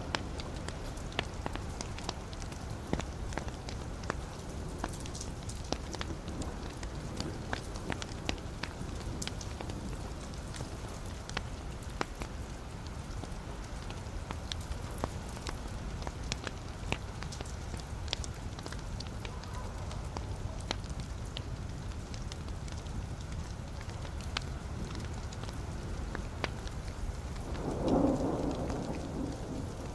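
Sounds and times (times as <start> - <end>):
fire crackling and popping: 0.0 - 29.9
low rumble of flame: 0.0 - 29.9.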